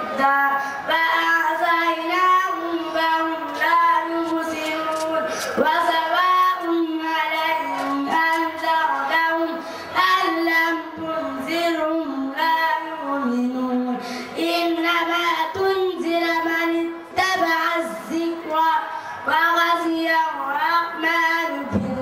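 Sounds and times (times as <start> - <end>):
boy chanting religious recitation: 0.0 - 22.0.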